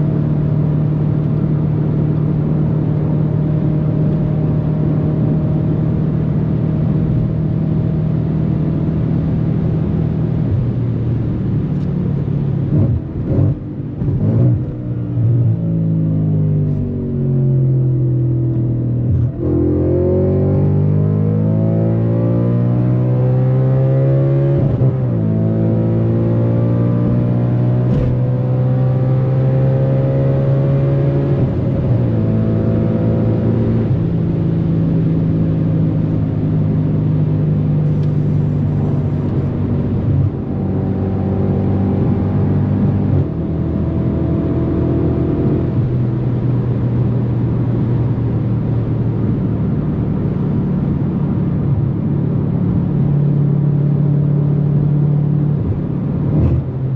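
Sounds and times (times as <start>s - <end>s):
car engine at full throttle: 0.0s - 56.9s.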